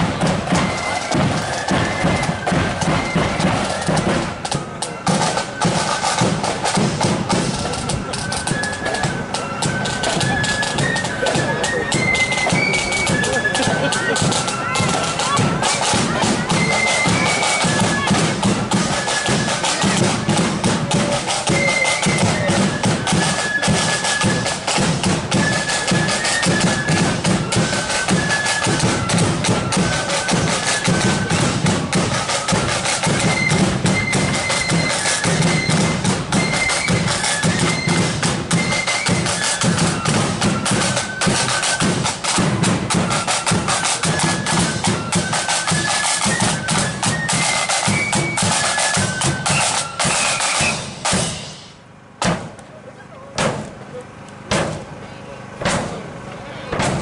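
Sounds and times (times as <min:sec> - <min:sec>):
bass drums beating: 0:00.0 - 0:45.1, 0:55.6 - 0:57.0
flutes playing melody: 0:00.0 - 0:51.8
snare drums: 0:00.0 - 0:52.6, 0:53.4 - 0:53.8, 0:54.4 - 0:54.9, 0:55.6 - 0:57.0.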